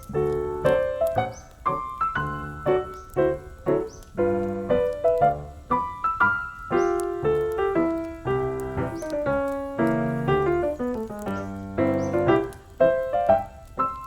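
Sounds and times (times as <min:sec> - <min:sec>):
piano melody over chords: 0:00.0 - 0:14.0.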